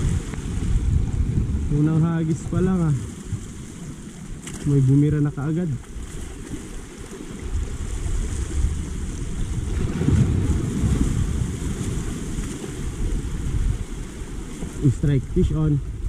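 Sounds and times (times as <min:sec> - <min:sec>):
waves washing against rocks: 0:00.0 - 0:16.0
wind rumbling on microphone: 0:00.0 - 0:16.0.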